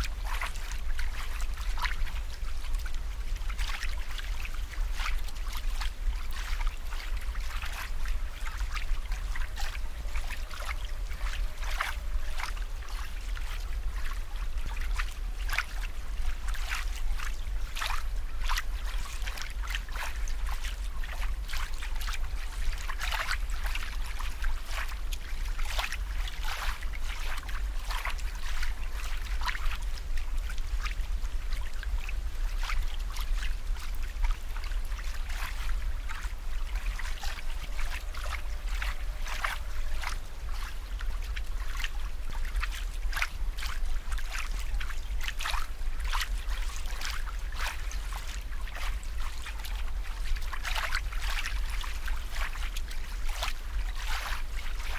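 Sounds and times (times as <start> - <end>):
steady low hum: 0.0 - 54.9
water drips and plops: 0.0 - 54.9
water trickling and bubbling: 0.0 - 54.9.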